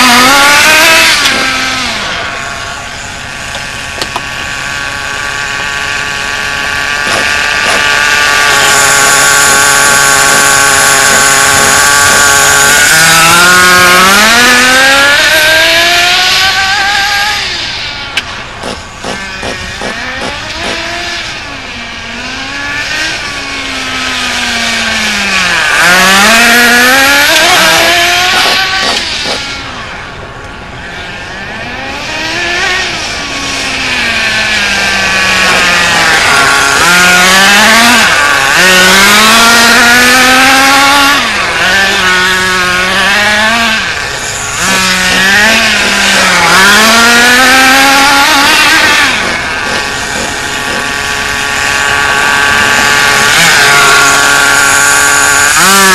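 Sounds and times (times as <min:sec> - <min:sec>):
small nitro engine revving: 0:00.0 - 0:55.9.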